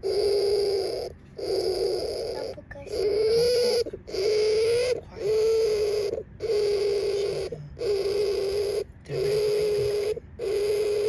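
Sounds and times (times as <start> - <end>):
hamster drawn-out pitched sound: 0.0 - 11.0.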